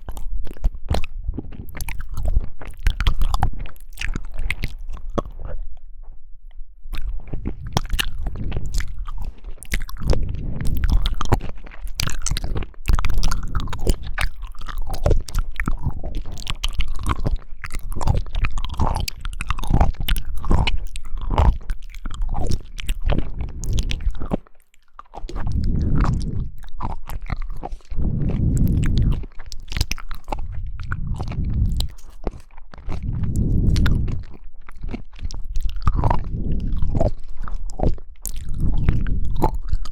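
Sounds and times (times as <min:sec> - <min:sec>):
person chewing jelly: 0:00.0 - 0:39.9.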